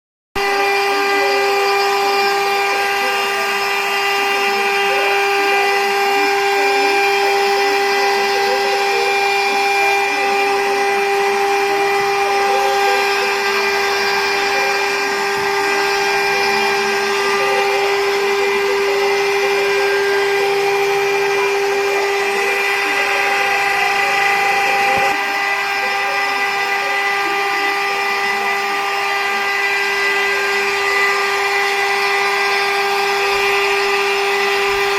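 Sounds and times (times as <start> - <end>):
router spindle whine: 0.4 - 34.9.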